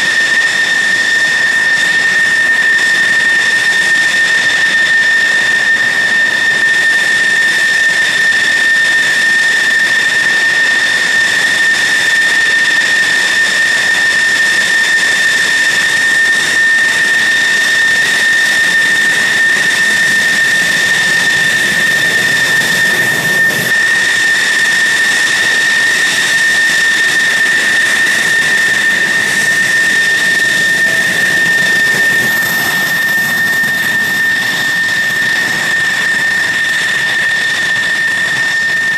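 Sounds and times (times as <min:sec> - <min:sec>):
jet engine whine and hiss: 0:00.0 - 0:38.9.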